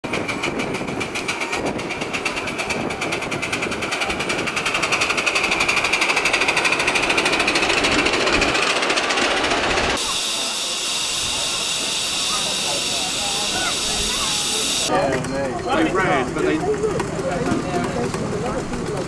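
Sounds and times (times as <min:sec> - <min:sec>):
miniature train clattering past: 0:00.0 - 0:19.0.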